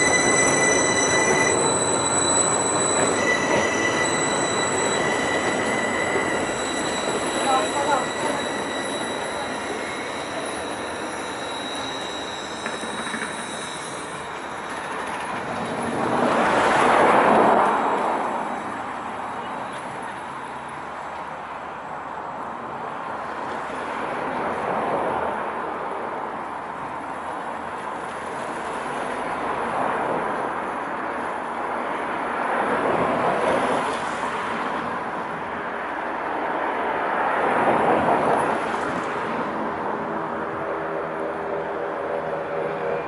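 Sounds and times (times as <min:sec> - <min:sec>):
train engine and wheel noise: 0:00.0 - 0:43.0.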